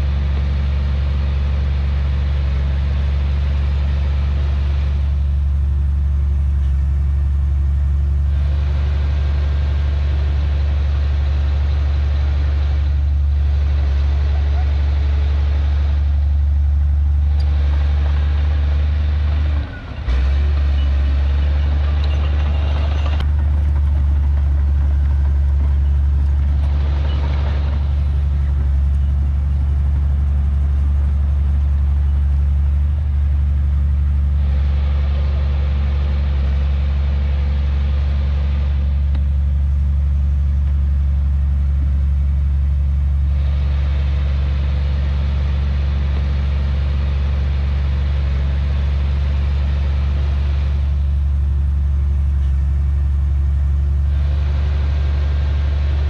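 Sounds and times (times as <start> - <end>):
heavy diesel engine droning: 0.0 - 56.0
rough higher engine noise: 0.0 - 56.0.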